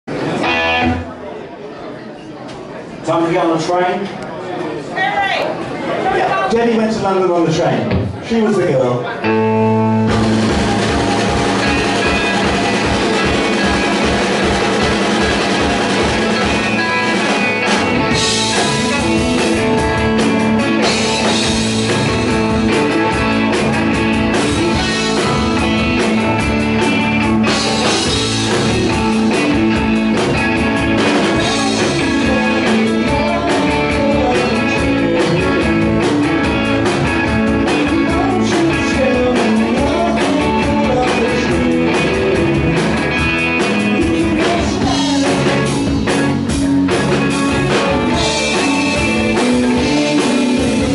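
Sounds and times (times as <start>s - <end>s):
electric guitars: 0.1s - 1.2s, 9.2s - 50.9s
drum kit with cymbals: 10.0s - 50.9s.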